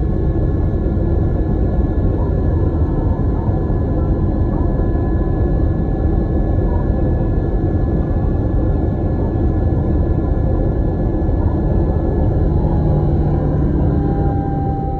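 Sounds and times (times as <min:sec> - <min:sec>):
faint engine whine: 0:00.0 - 0:14.9
jet engine rumble in cabin: 0:00.0 - 0:14.9.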